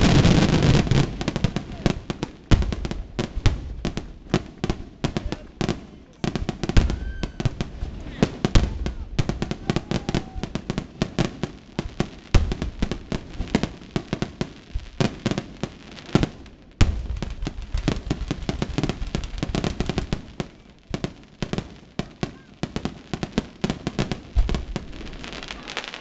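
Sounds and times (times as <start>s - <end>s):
heavy firework booms: 0.0s - 25.8s
firework bangs and crackles: 0.0s - 26.0s.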